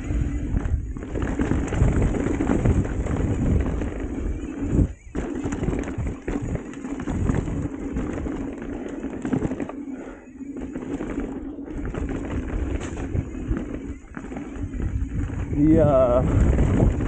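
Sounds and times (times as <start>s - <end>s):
wind on microphone: 0.0s - 9.7s, 10.6s - 17.0s
bike frame and chain rattling: 0.0s - 17.0s
tyre noise on dirt: 0.0s - 17.0s.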